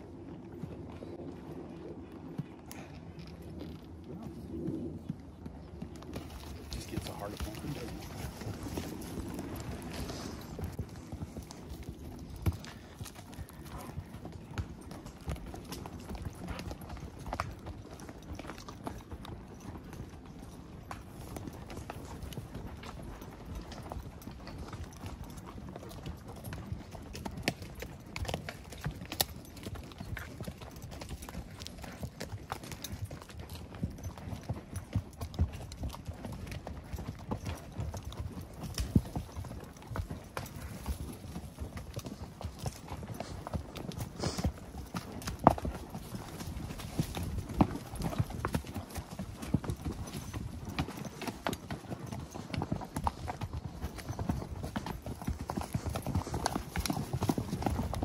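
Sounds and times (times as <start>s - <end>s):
horse hooves on dirt trail: 0.0s - 58.0s.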